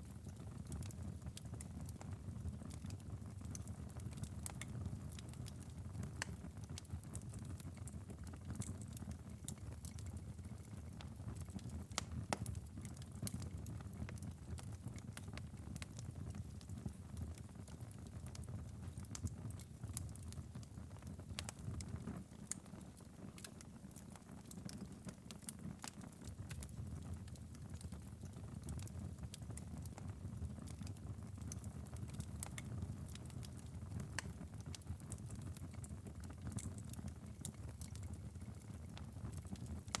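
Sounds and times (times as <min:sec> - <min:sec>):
fire crackling and popping: 0:00.0 - 0:40.0.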